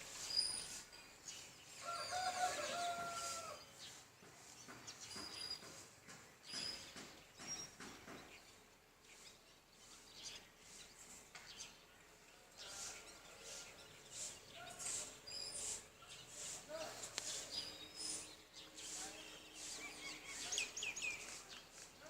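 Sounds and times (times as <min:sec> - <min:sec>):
birds singing and calling: 0:00.0 - 0:22.0.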